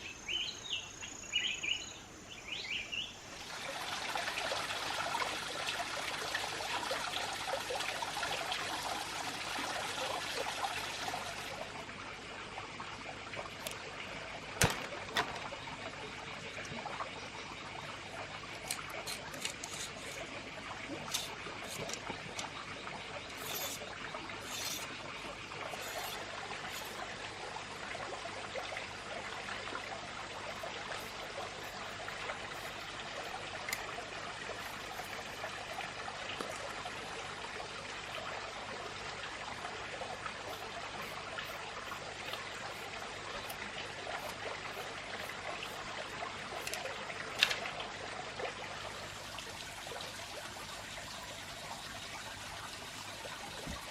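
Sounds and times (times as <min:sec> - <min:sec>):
water trickling: 0:00.3 - 0:53.9.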